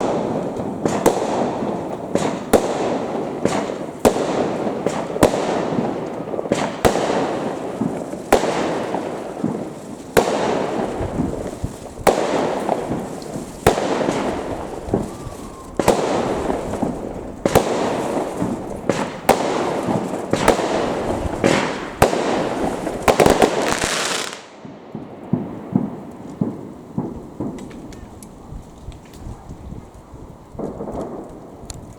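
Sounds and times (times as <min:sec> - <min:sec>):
firework shells bursting: 0:00.0 - 0:28.3
fireworks crackling: 0:00.0 - 0:31.9.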